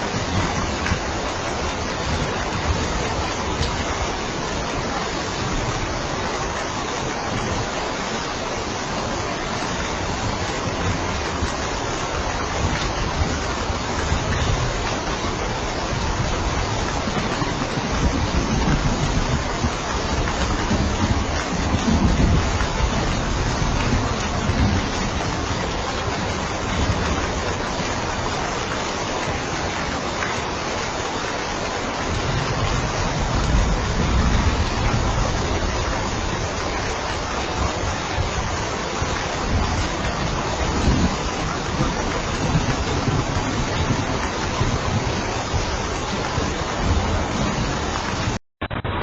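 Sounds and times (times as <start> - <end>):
rain falling on a roof: 0.0 - 49.0.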